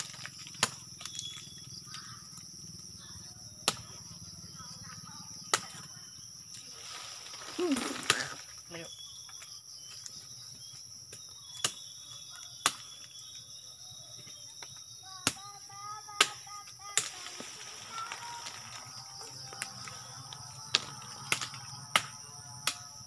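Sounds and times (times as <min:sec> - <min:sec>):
insects droning: 0:00.0 - 0:23.0
faint chirps: 0:00.6 - 0:23.0.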